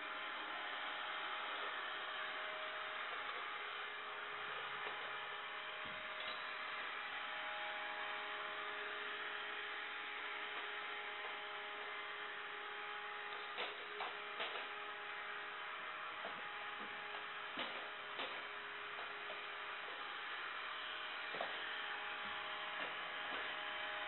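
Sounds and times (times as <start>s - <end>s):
robotic vacuum cleaner running: 0.0s - 24.0s.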